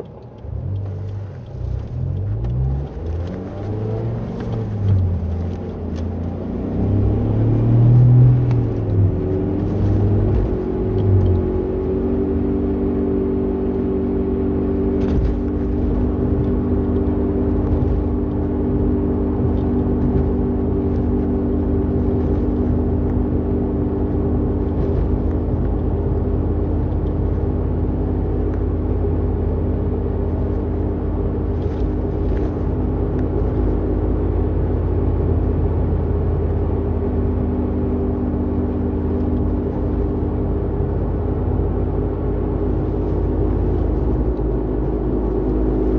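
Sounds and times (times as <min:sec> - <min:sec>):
continuous droning roar of car: 0:00.0 - 0:45.9.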